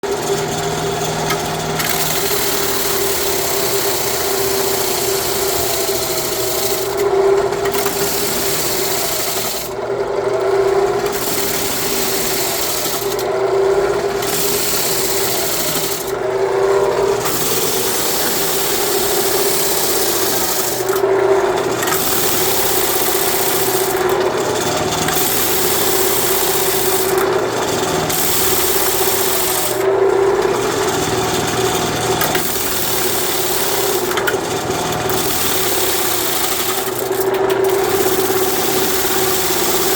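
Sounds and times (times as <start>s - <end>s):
sander motor hum: 0.0s - 39.9s.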